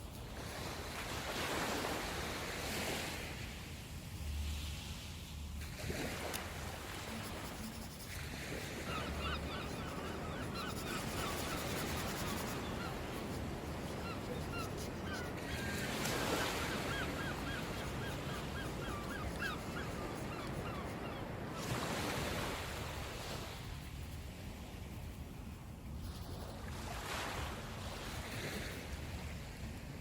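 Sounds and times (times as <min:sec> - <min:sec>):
sea waves on shore: 0:00.1 - 0:25.2, 0:26.0 - 0:29.8.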